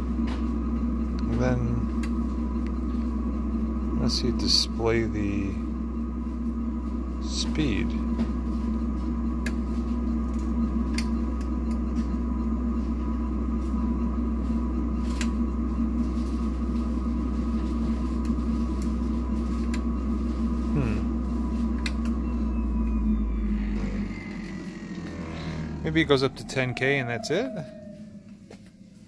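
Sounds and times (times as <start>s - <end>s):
centrifuge motor hum and whine: 0.0s - 29.0s.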